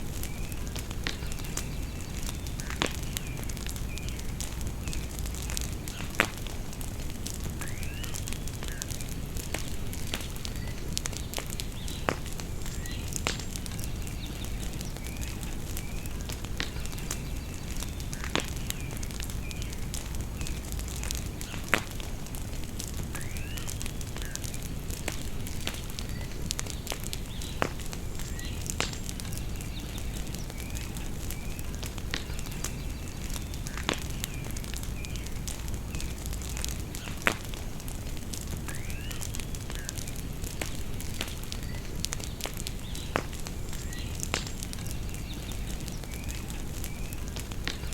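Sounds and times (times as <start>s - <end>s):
bonfire crackling and popping: 0.0s - 47.9s
birds chirping: 0.1s - 47.9s.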